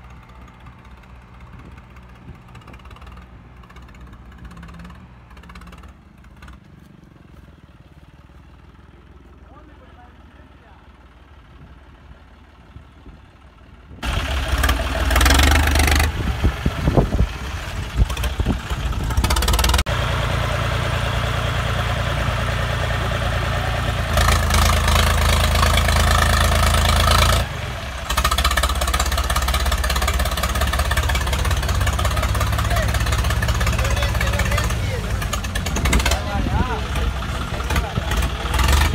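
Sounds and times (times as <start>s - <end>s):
diesel tractor engines straining: 0.0s - 38.9s.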